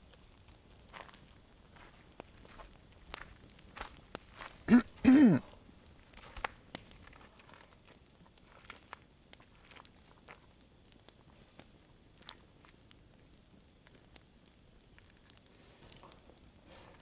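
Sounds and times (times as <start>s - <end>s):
campfire crackling: 0.0s - 17.0s
fire pops and snaps: 0.0s - 17.0s.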